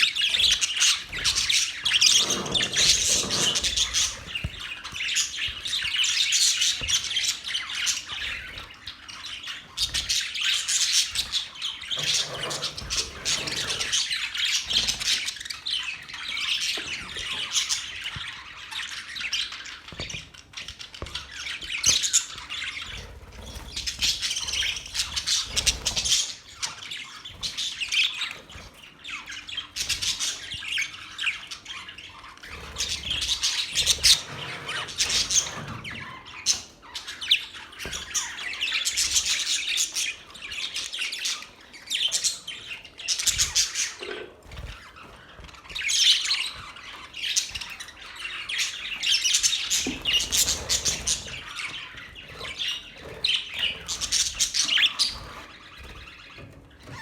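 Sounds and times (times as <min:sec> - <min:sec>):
parrots chirping and squawking: 0:00.0 - 0:57.0.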